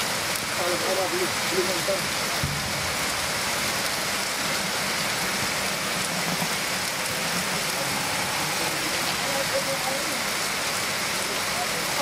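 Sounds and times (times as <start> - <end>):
rain on wet ground: 0.0 - 12.0.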